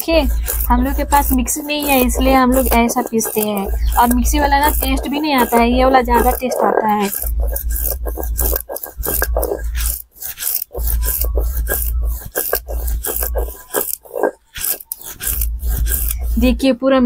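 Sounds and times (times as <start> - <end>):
stone roller grinding on stone slab: 0.0 - 16.7.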